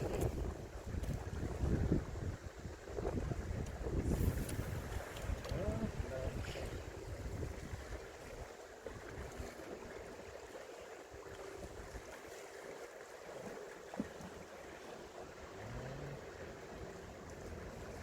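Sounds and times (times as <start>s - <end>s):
faint steady hum: 0.0s - 18.0s
light wind: 0.0s - 18.0s
sea water lapping: 0.0s - 18.0s.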